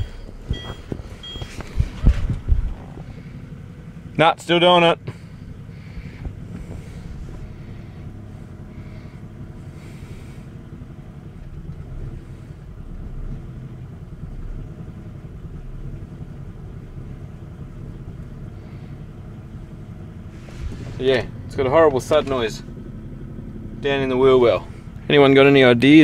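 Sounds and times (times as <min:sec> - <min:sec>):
car engine low rumble: 0:00.0 - 0:26.0.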